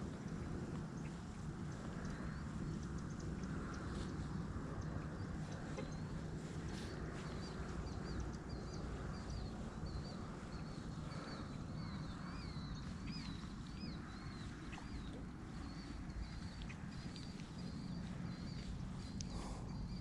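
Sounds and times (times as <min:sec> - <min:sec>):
steady low rumble: 0:00.0 - 0:20.0
small bird chirping: 0:00.2 - 0:20.0.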